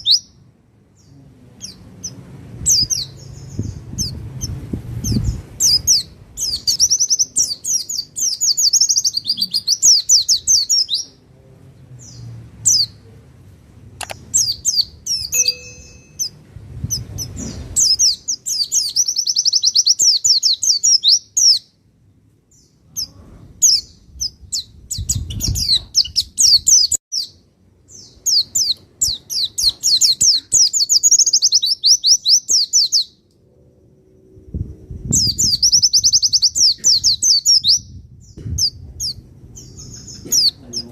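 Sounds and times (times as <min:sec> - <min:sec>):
bird twittering: 0:01.6 - 0:11.1, 0:14.0 - 0:21.7, 0:22.9 - 0:33.2, 0:35.1 - 0:40.9.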